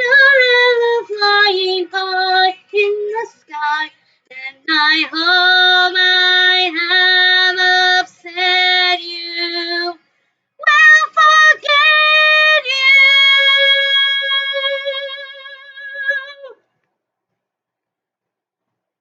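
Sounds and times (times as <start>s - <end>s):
woman singing: 0.0s - 10.0s, 10.6s - 16.6s.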